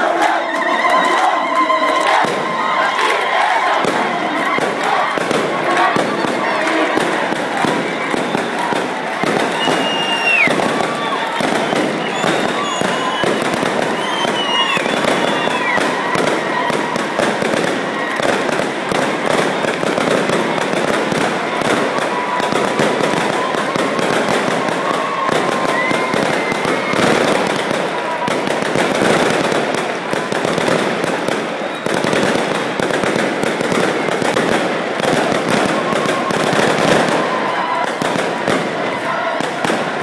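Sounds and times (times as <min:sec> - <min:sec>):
crowd voices: 0:00.0 - 0:40.0
firecrackers crackling: 0:00.0 - 0:40.0.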